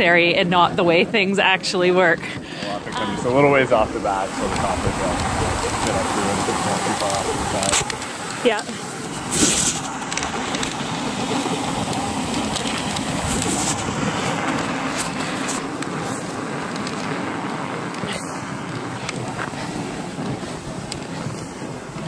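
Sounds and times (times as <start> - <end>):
sled runners scraping on snow: 2.2 - 22.0.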